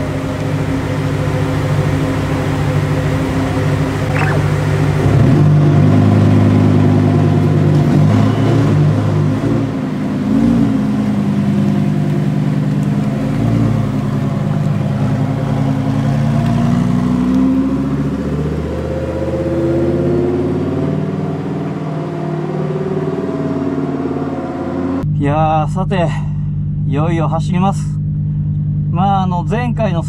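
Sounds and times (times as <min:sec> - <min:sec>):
sports car engine at low speed: 0:00.0 - 0:30.0.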